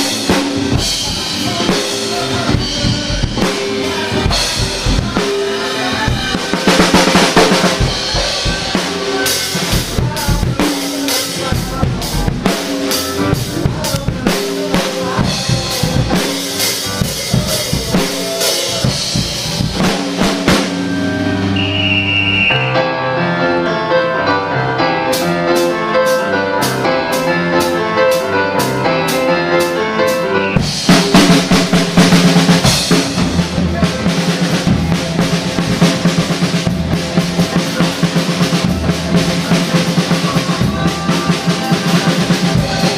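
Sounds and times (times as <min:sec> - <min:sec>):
drum kit playing: 0:00.0 - 0:23.7, 0:25.0 - 0:42.9
rock backing track: 0:00.0 - 0:42.9.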